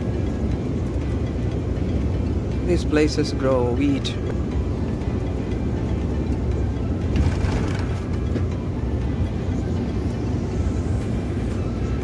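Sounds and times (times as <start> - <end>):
coach engine and tyre rumble: 0.0 - 12.0.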